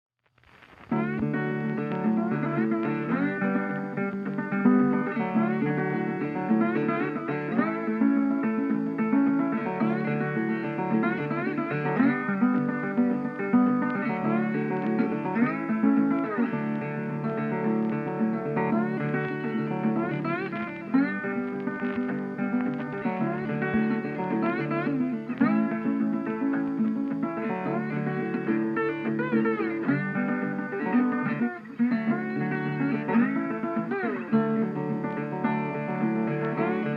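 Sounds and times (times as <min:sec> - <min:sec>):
guitar background music: 0:00.4 - 0:36.9.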